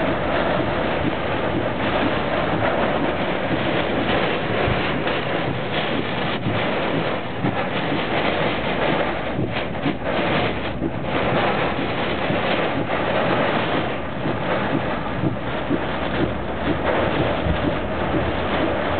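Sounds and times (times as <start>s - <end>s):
heavy rain lashing a car: 0.0s - 18.9s
hurricane-force wind: 0.0s - 18.9s.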